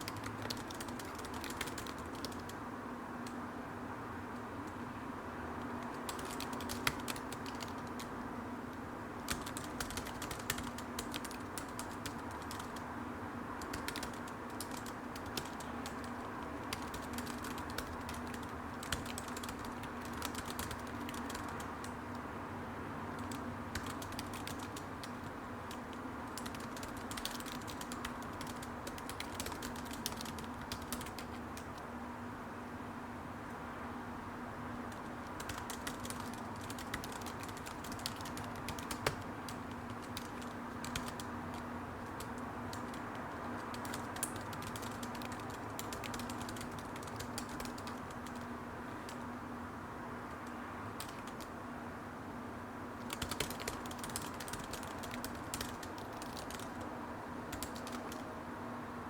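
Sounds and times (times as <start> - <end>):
computer keyboard keys clicking: 0.0 - 2.6, 5.6 - 12.8, 13.6 - 22.2, 23.2 - 31.8, 34.9 - 49.3, 50.3 - 51.5, 53.0 - 58.3.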